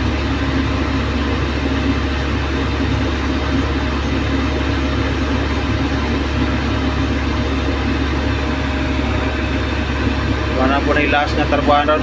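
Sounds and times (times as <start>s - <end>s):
excavator diesel engine drone: 0.0s - 12.0s
thin steady whine: 0.0s - 12.0s.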